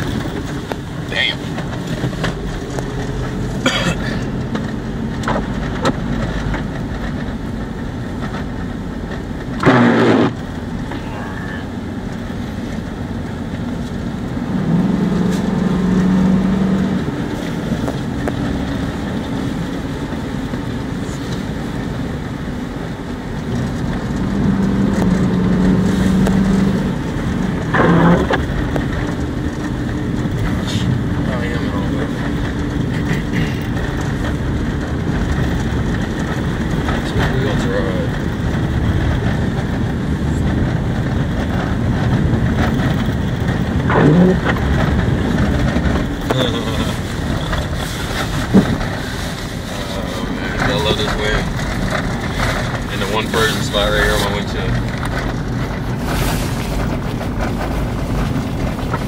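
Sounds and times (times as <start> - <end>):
vehicle engine and tyres rumbling: 0.0 - 59.0.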